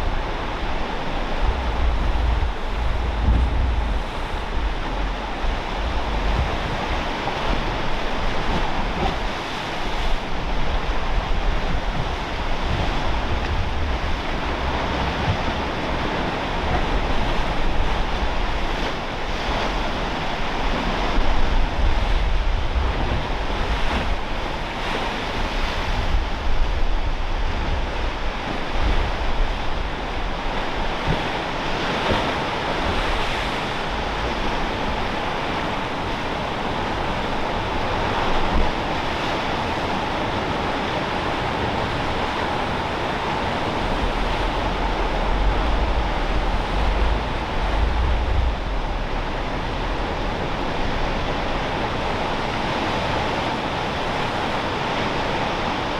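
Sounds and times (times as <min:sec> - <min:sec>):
ocean surf washing: 0:00.0 - 0:55.9
wind rumbling on microphone: 0:00.0 - 0:55.9.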